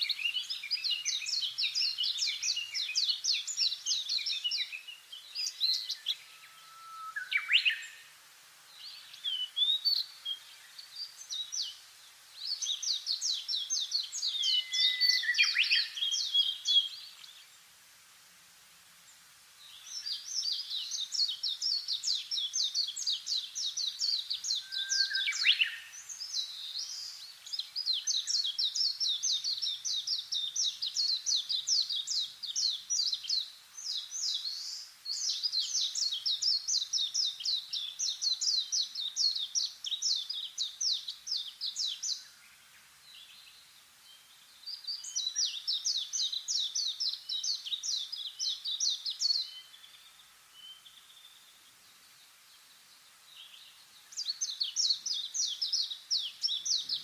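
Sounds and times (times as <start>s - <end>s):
downsweeping bird calls: 0.0s - 8.2s, 8.8s - 17.6s, 19.6s - 57.0s
songbirds chirping: 0.0s - 57.0s.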